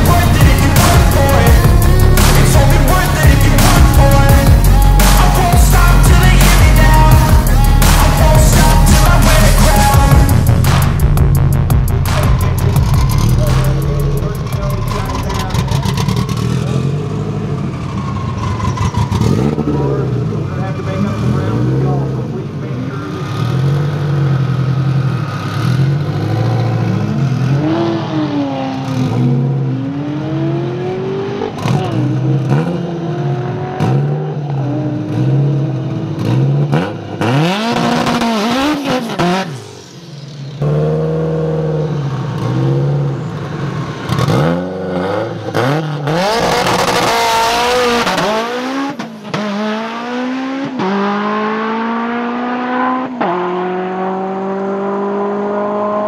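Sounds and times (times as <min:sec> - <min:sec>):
drag racing car engines revving: 0:00.0 - 0:56.0.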